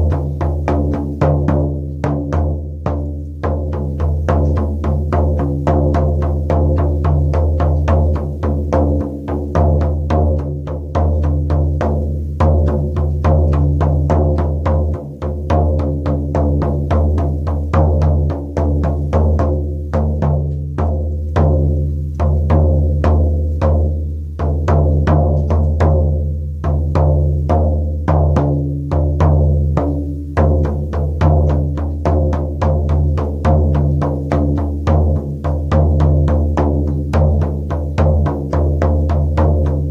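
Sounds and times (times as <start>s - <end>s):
frame drum beating deep and low: 0.0s - 39.9s.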